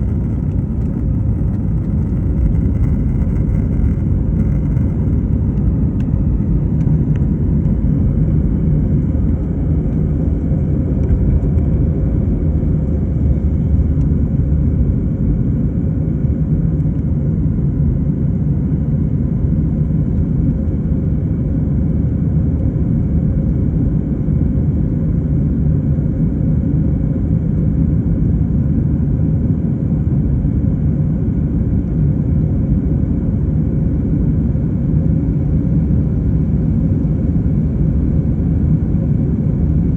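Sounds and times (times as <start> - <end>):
airliner engine rumble in cabin: 0.0 - 39.9
faint steady hum: 0.0 - 39.9.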